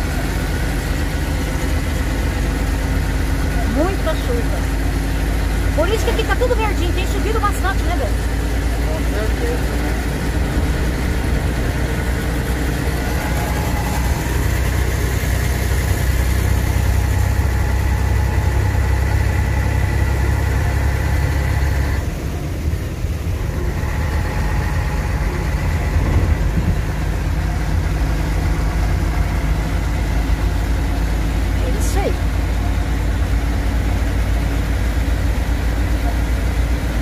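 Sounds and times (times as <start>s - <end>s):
road noise: 0.0s - 37.0s
truck diesel engine running: 0.0s - 37.0s.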